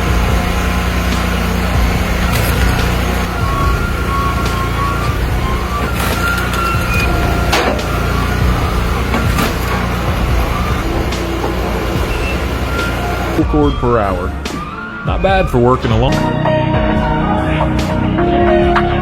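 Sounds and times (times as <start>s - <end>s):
log splitter engine running: 0.0s - 19.0s.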